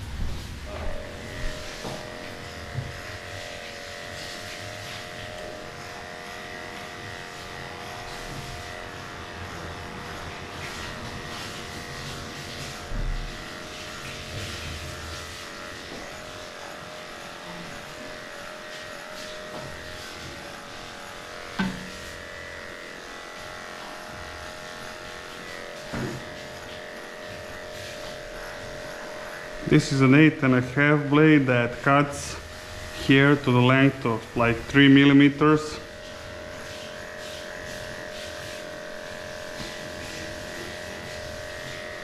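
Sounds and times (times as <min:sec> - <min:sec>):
electric clippers running: 0:00.0 - 0:42.0.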